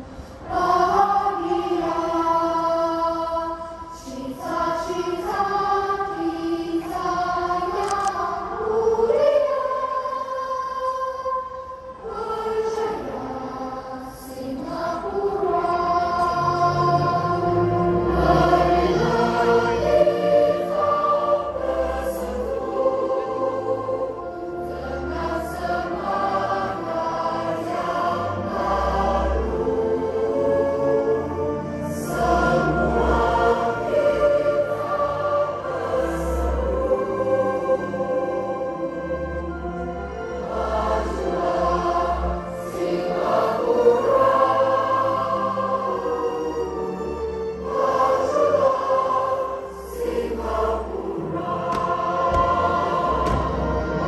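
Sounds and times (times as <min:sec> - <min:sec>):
choir singing: 0:00.0 - 0:54.0
music: 0:00.0 - 0:54.0.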